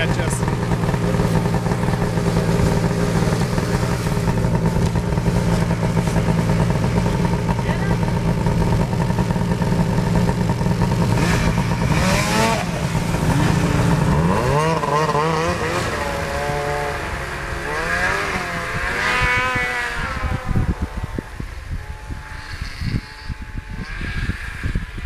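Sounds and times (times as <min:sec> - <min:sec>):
snowmobile engines idling and revving: 0:00.0 - 0:25.0.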